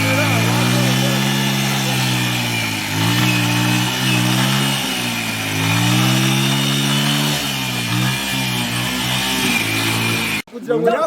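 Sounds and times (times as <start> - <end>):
small engine revving: 0.0 - 10.4.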